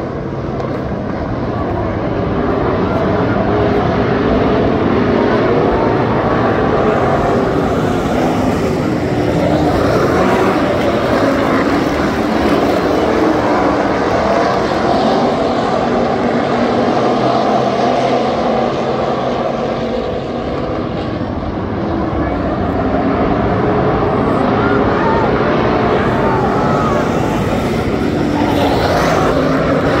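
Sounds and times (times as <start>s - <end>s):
stock car engines racing: 0.0s - 30.0s.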